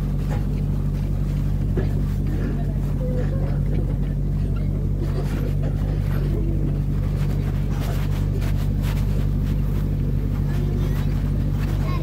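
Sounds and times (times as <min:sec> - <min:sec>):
engine humming steadily: 0:00.0 - 0:12.0
faint voices: 0:01.6 - 0:12.0.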